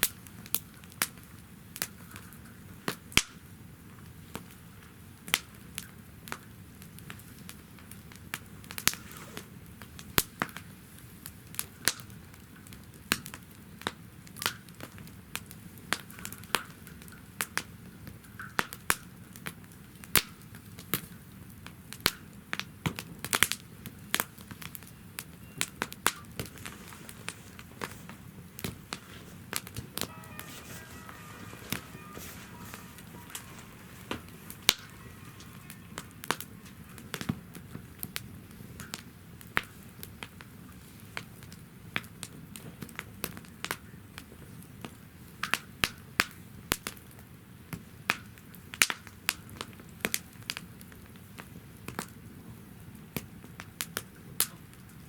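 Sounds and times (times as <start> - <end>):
campfire crackling and popping: 0.0 - 31.2, 31.9 - 52.3
low noise of flames: 0.0 - 55.0.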